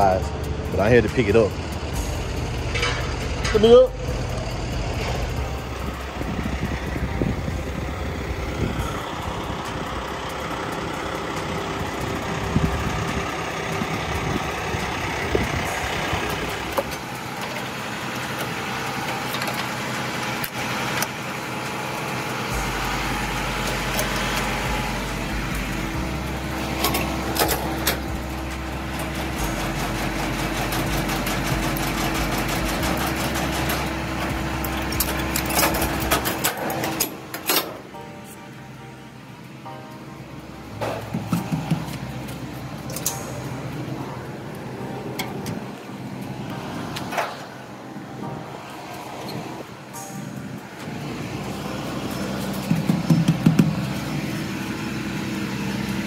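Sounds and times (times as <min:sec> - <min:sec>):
steady hum: 0:00.0 - 0:56.0
truck engine droning: 0:00.0 - 0:56.0.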